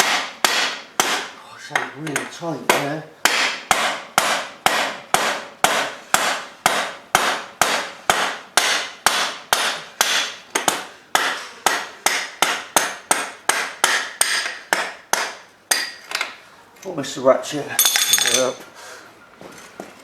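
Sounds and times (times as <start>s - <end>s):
hammer blows ringing on metal: 0.0s - 16.0s.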